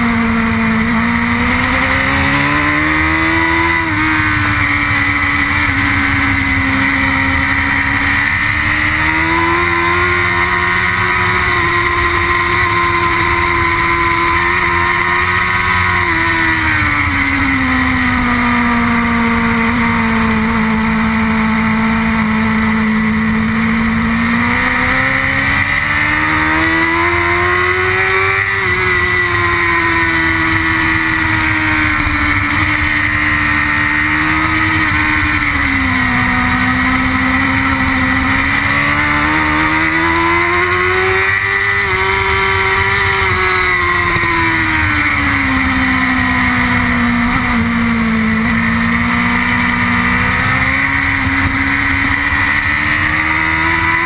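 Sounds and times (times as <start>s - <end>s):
motorcycle engine at high revs: 0.0s - 54.0s.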